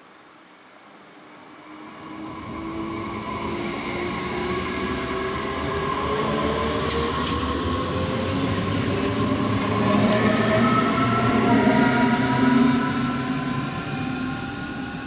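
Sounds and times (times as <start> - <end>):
train traction motor whine: 1.6 - 15.0
train wheels rolling: 2.2 - 15.0.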